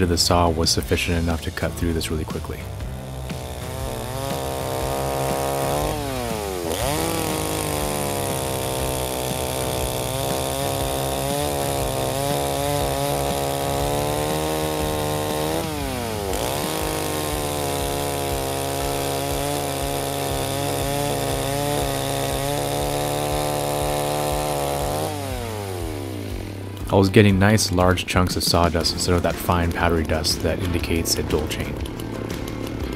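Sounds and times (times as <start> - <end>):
chainsaw cutting log: 0.0 - 32.9.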